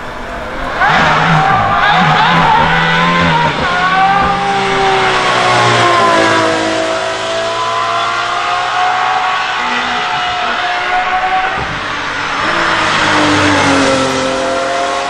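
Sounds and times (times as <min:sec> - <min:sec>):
car engine at high revs passing: 0:00.0 - 0:15.0.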